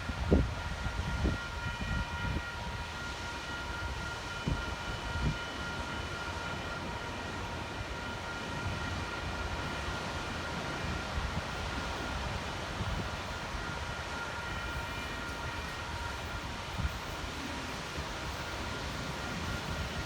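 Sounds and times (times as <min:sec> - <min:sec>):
passenger train running: 0:00.0 - 0:20.0.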